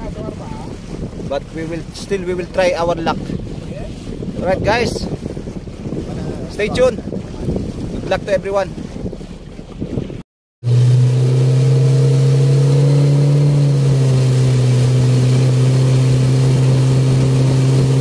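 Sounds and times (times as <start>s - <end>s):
water and wind hiss: 0.0s - 10.0s, 10.7s - 18.0s
outboard motor droning: 0.0s - 18.0s.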